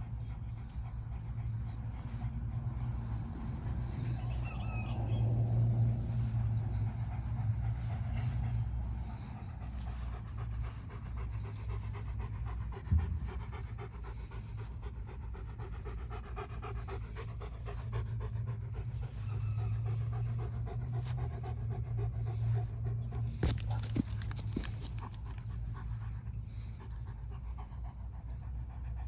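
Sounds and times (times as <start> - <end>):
low rumble: 0.0 - 28.8
dog panting: 0.0 - 29.0.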